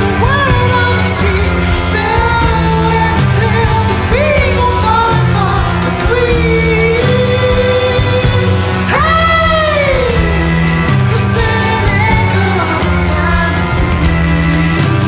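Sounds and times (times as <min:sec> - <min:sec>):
band with repeating bass: 0:00.0 - 0:15.0
person singing: 0:00.0 - 0:15.0.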